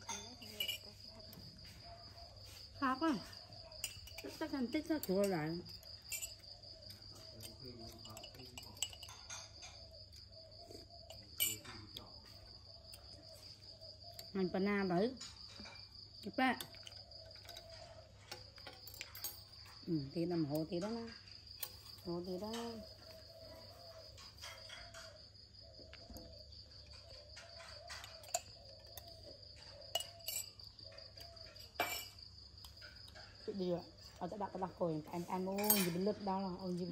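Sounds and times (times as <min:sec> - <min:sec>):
high-pitched insect trill: 0:00.0 - 0:36.9.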